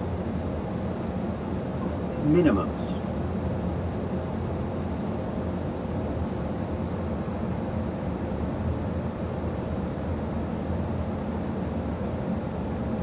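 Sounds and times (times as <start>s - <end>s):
cockpit airflow and engine noise: 0.0s - 13.0s.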